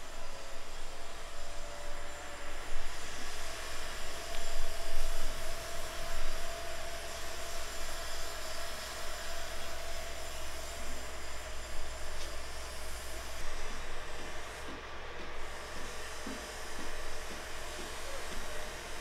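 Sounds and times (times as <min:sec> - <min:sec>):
engine-like drone with whine: 0:00.0 - 0:19.0.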